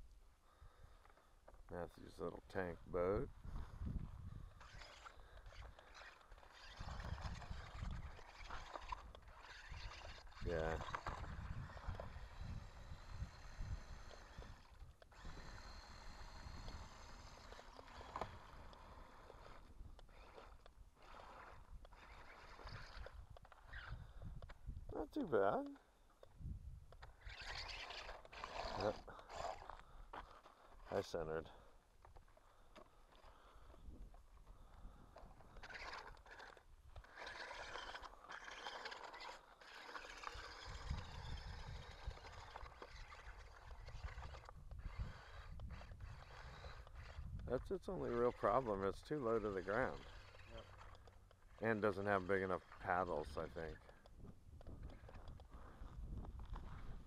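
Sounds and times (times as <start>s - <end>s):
toy tank tracks crunching on gravel: 0.9s - 57.0s
small electric motor running: 2.1s - 25.8s, 27.0s - 31.7s, 34.6s - 57.0s.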